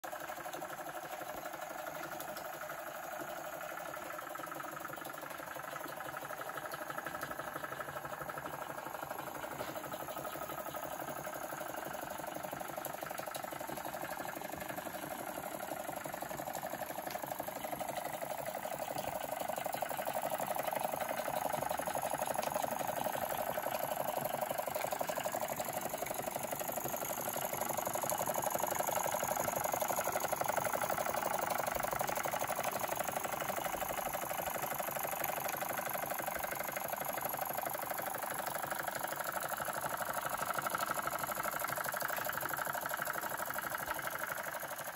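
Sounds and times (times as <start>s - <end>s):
steam engine mechanical clatter: 0.0s - 44.9s.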